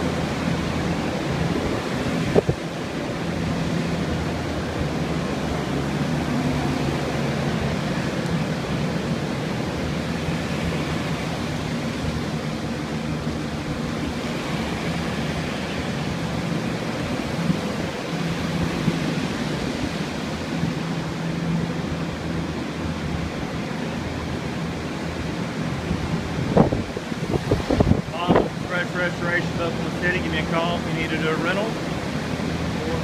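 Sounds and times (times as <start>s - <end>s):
blown air rushing: 0.0s - 33.0s
low motor hum: 0.0s - 33.0s.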